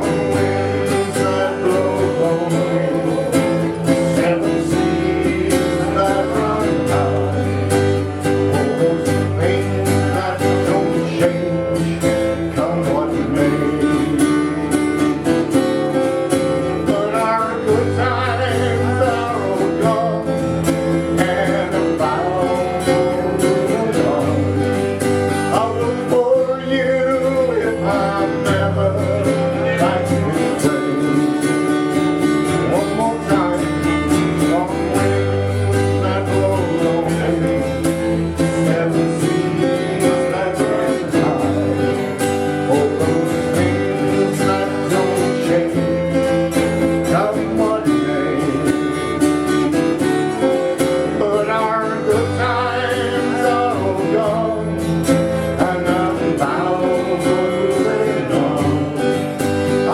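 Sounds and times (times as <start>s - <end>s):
acoustic folk band playing: 0.0s - 59.9s.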